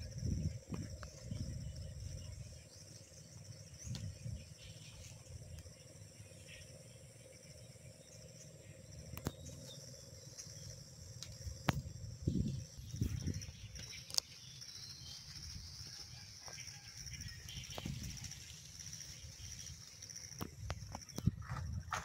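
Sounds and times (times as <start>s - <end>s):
pulsing insect chorus: 0.0s - 22.0s.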